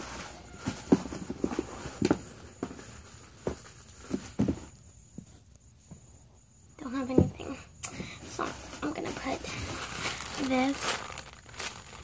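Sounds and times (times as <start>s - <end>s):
small objects knocking and rustling: 0.0s - 6.0s, 7.0s - 12.0s.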